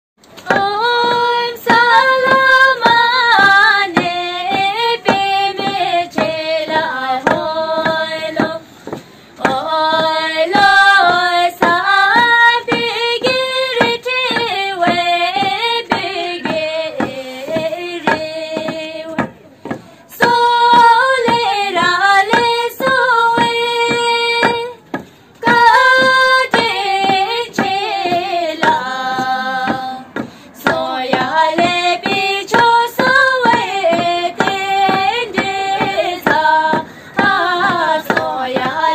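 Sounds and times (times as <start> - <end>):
knocks keeping time: 0.2 - 38.9
woman singing unaccompanied: 0.4 - 38.9.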